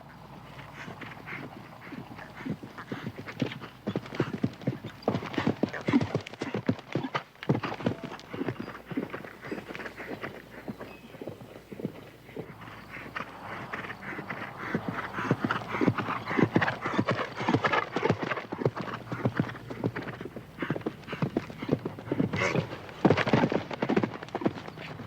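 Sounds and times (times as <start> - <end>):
horse hooves striking ground: 0.0 - 25.0.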